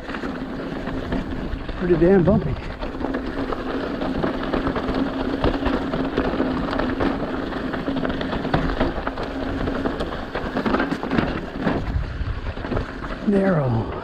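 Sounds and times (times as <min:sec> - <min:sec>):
bike clattering over rocks: 0:00.0 - 0:13.8.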